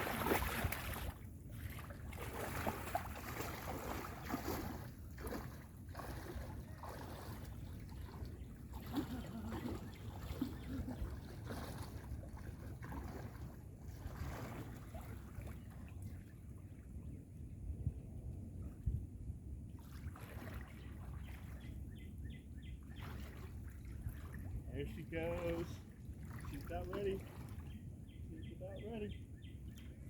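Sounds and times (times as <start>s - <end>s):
river water sloshing and splashing: 0.0s - 17.1s, 19.7s - 22.2s, 22.8s - 28.1s
wind rumbling on microphone: 0.0s - 30.0s.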